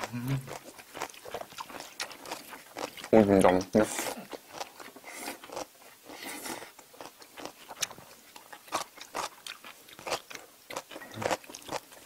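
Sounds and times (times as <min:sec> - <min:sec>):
crisp crunching of chewing: 0:00.0 - 0:12.0.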